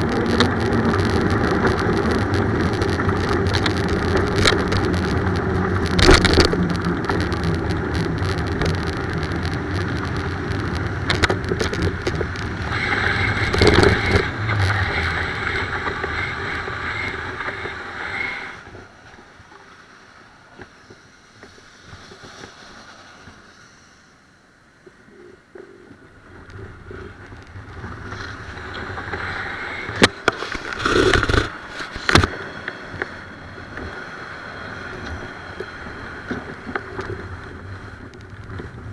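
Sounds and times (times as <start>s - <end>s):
wind noise on microphone: 0.0s - 18.8s, 25.9s - 38.9s
passing traffic: 0.0s - 38.9s.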